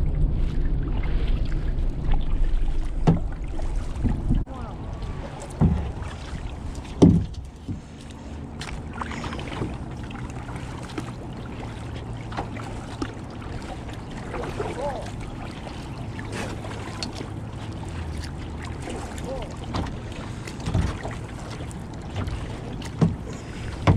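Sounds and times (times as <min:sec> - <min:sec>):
water sounds: 0:00.0 - 0:23.9
wind rumble on microphone: 0:00.0 - 0:23.9
paddle knocking against hull: 0:02.5 - 0:23.9.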